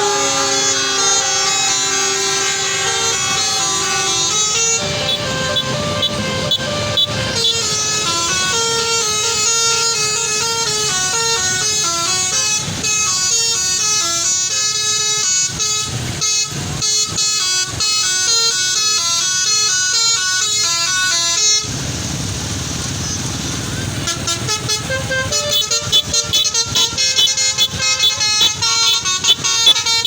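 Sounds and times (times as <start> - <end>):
musical air horn melody: 0.0 - 22.0, 23.0 - 30.0.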